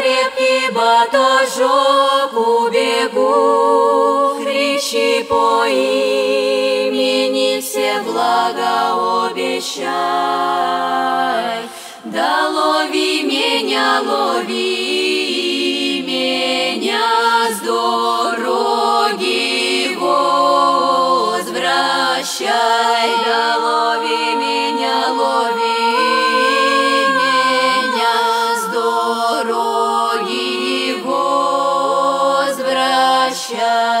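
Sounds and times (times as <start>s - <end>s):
vocal group singing a cappella: 0.0s - 34.0s.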